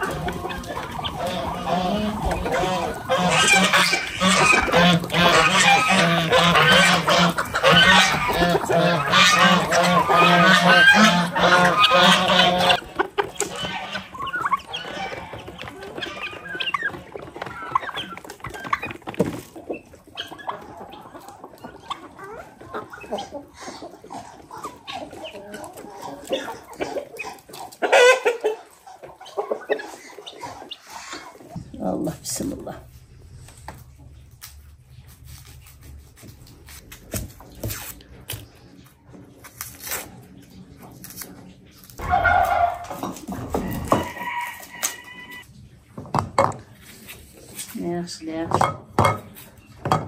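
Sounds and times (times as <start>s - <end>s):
poultry calling and clucking: 0.0s - 50.0s.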